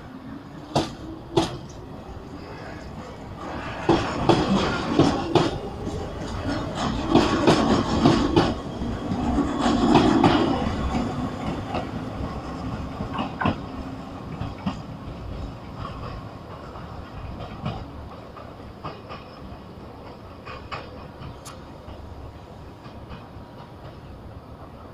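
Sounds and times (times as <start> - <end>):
train wheels clattering over rail joints: 0.6 - 1.8, 2.4 - 24.4.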